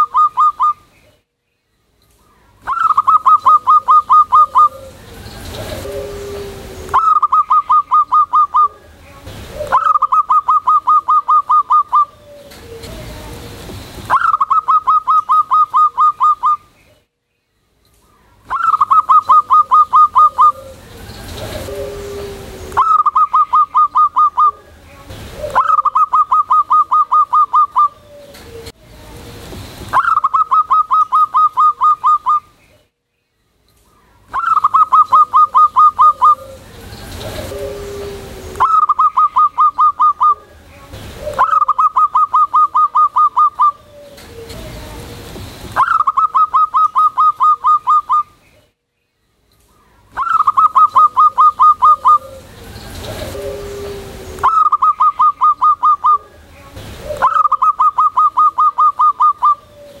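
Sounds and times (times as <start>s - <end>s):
dove cooing: 0.0s - 0.8s, 2.6s - 16.7s, 18.4s - 29.2s, 29.9s - 32.5s, 34.3s - 45.2s, 45.8s - 48.3s, 50.2s - 60.0s.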